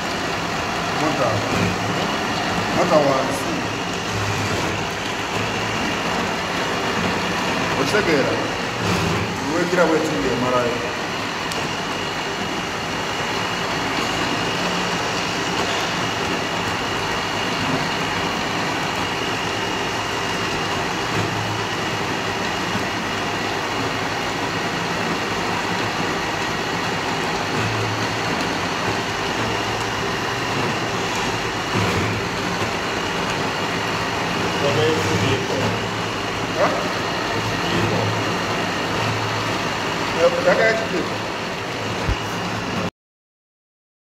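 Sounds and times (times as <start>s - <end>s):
blender churning thick pulp: 0.0s - 42.9s.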